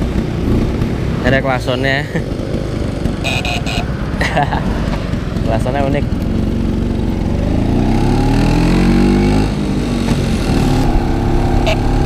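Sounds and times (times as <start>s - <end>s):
scooter engine accelerating: 0.0s - 12.0s.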